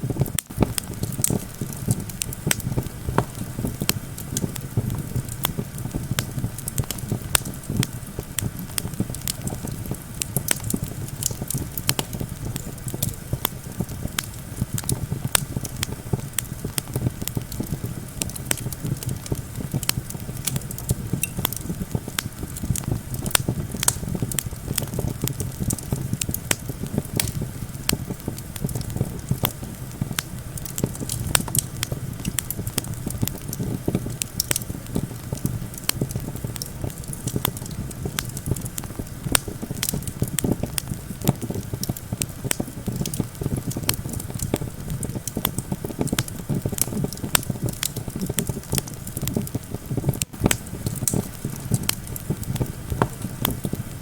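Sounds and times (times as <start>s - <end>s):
campfire crackling: 0.0s - 54.0s
low rumble of wind: 0.0s - 54.0s.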